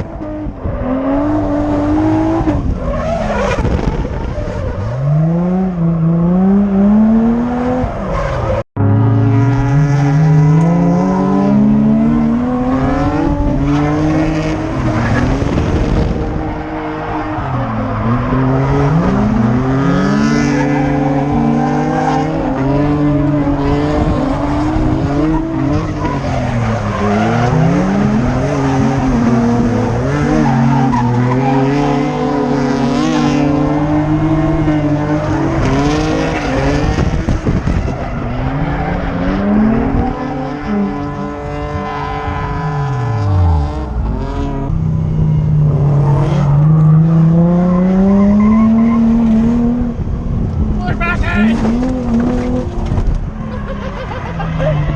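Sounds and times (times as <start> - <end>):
car engine revving: 0.0 - 50.8, 51.4 - 54.9.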